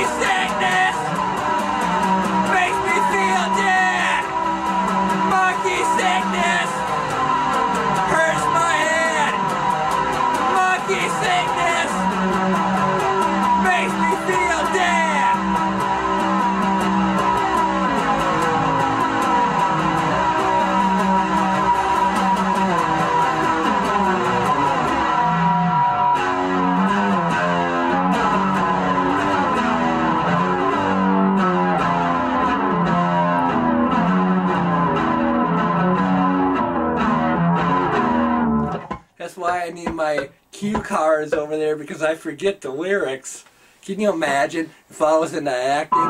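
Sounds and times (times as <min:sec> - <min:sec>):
guitar chord riff: 0:00.0 - 0:41.5.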